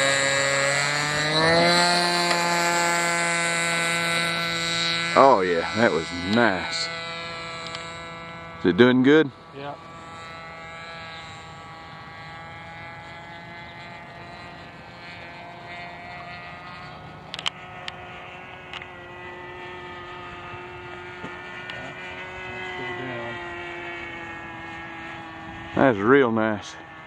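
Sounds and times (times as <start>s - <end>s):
model airplane engine droning: 0.0s - 27.0s.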